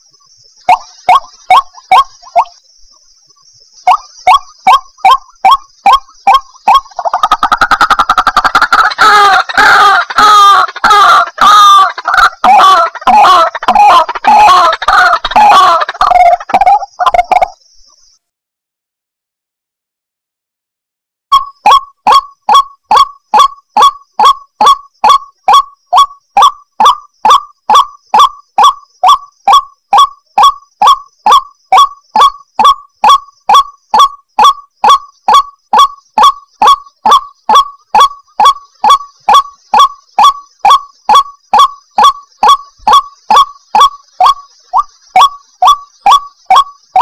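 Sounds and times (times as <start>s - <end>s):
waterhen calling harsh notes: 0.7s - 2.6s, 3.9s - 17.6s, 21.3s - 47.0s.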